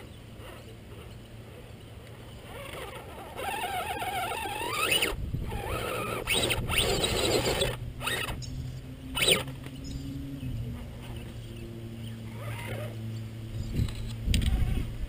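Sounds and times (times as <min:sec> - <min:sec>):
electric motor and gears whining: 0:00.0 - 0:15.0.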